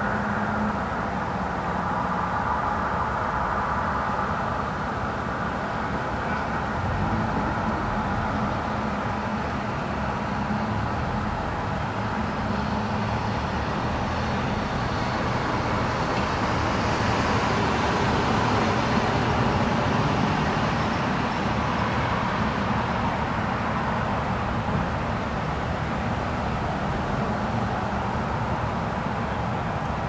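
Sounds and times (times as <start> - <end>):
road traffic hum: 0.0 - 30.0.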